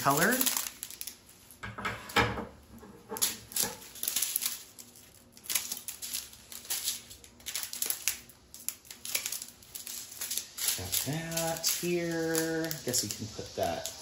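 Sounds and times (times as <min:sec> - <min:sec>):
plastic zip bags crinkling: 0:00.0 - 0:01.6, 0:03.2 - 0:14.0.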